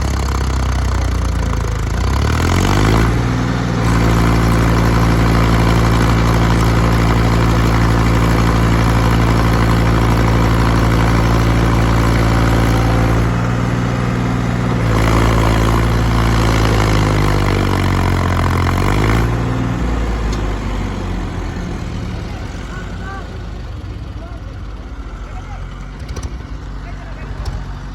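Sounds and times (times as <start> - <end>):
diesel engine revving: 0.0 - 27.9.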